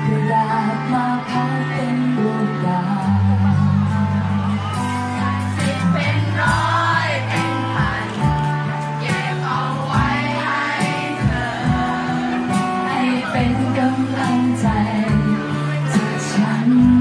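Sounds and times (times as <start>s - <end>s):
acoustic guitar and bass ballad: 0.0s - 17.0s
crowd singing along: 0.0s - 17.0s.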